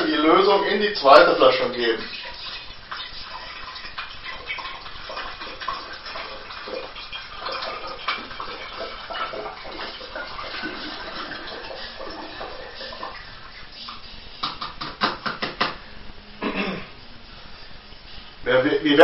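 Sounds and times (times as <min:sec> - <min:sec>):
liquid pouring and splashing: 0:00.0 - 0:15.6.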